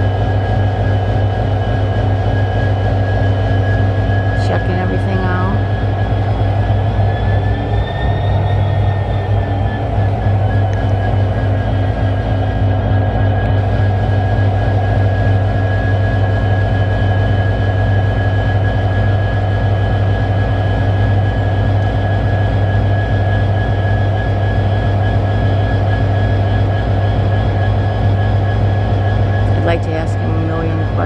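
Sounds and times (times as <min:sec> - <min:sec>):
diesel locomotive idling: 0:00.0 - 0:31.0.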